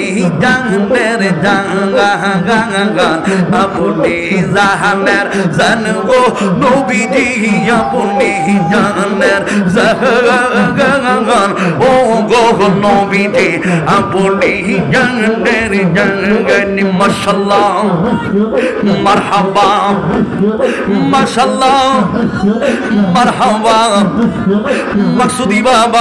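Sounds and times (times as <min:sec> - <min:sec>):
man chanting into a microphone: 0:00.0 - 0:26.0
rhythmic hand-claps: 0:00.0 - 0:26.0.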